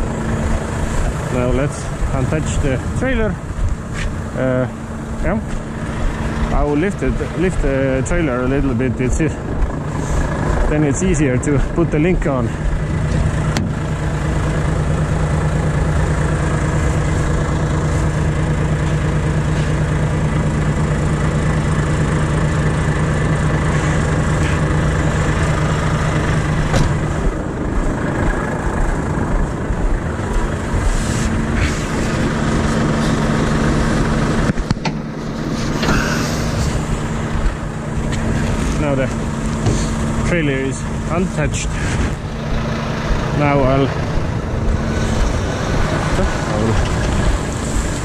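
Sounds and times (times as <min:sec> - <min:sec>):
truck diesel engine idling: 0:00.0 - 0:48.0.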